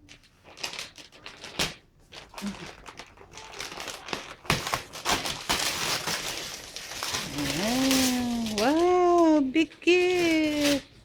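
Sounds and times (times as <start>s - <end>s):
wrapping paper tearing and crumpling: 0.0s - 11.0s.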